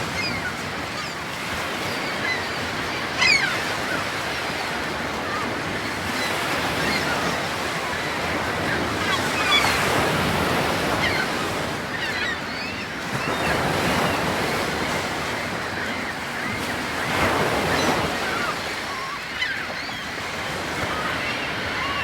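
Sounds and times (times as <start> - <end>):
ocean waves washing: 0.0 - 22.0.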